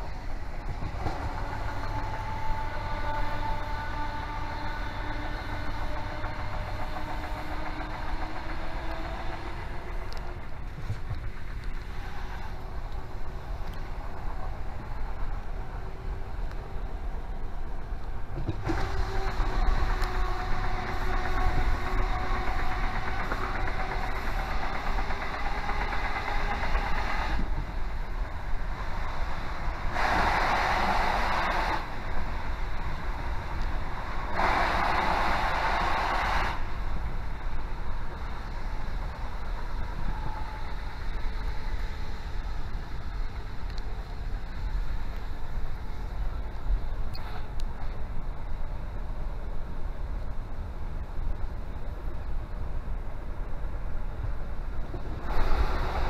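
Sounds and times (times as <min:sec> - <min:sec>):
train running rumble: 0:00.0 - 0:56.0
train rushing noise: 0:00.0 - 0:56.0.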